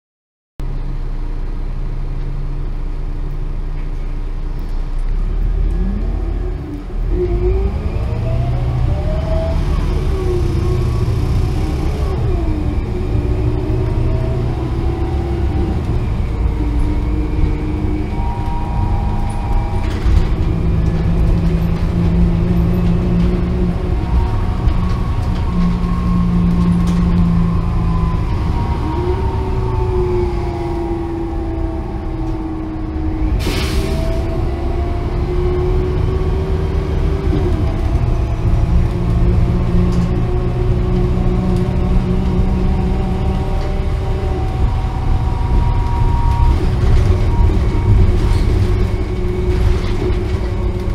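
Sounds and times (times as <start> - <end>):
bus engine idling and accelerating: 0.6 - 50.9.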